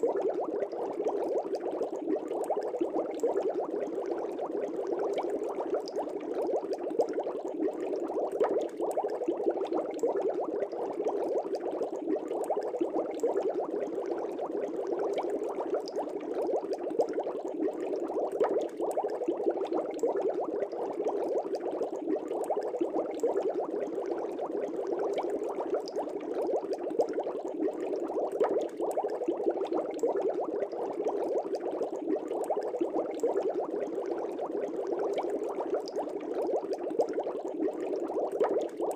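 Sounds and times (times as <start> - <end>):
aquarium bubbling: 0.0 - 38.9.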